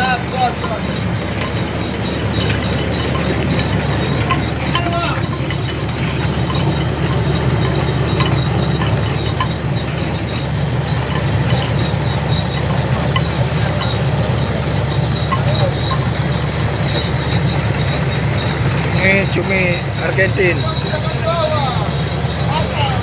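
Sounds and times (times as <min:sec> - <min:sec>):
boat machinery drone: 0:00.0 - 0:23.0.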